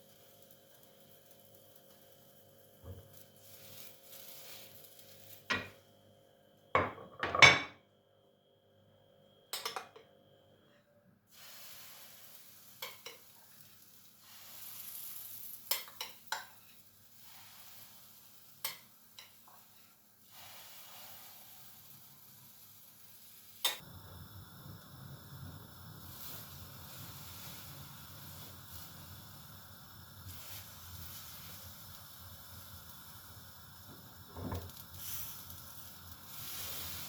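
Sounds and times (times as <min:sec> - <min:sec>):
faint food sizzling: 0:00.0 - 0:05.9, 0:11.3 - 0:37.0.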